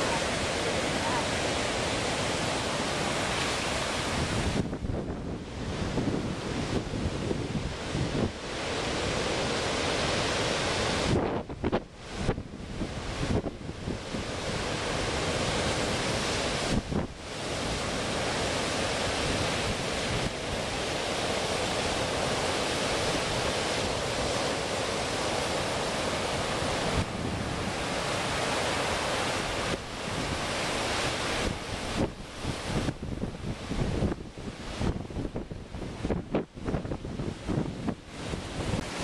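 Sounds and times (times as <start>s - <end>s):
wind buffeting microphone: 0.0s - 9.6s, 10.8s - 21.8s, 26.2s - 39.0s
breaking waves: 0.0s - 39.0s.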